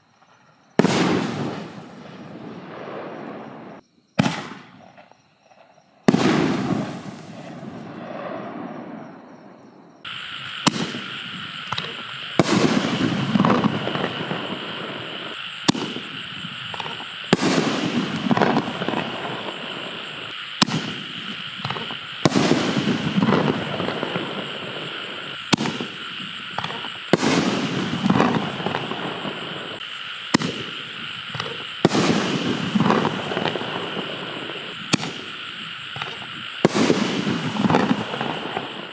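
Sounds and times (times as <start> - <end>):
firework crackling: 0.8 - 4.8, 6.1 - 9.1, 10.1 - 38.9
firework shells firing: 0.8 - 5.1, 6.1 - 8.7, 10.1 - 38.9.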